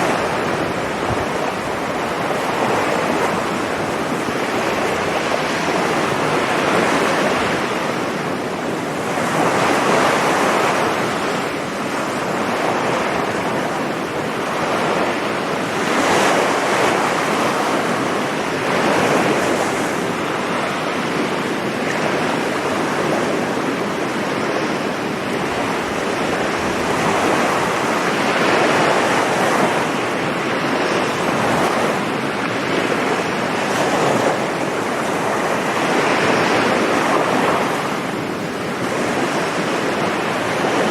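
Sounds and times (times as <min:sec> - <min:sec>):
sea surf washing onto beach: 0:00.0 - 0:40.9.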